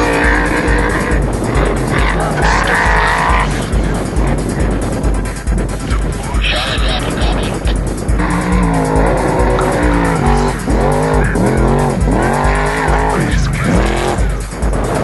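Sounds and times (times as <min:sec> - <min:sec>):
music with steady beat: 0:00.0 - 0:15.0
truck engine revving: 0:00.0 - 0:15.0.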